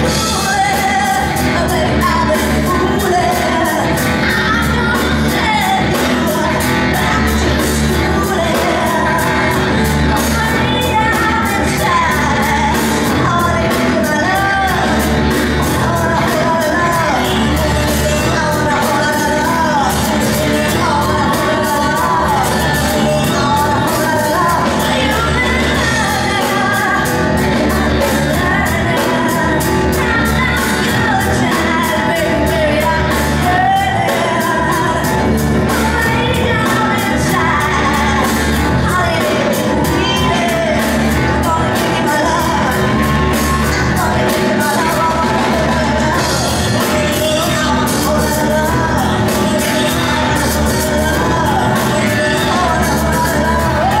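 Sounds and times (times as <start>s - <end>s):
double bass: 0.0s - 54.0s
drums: 0.0s - 54.0s
person singing: 0.0s - 54.0s.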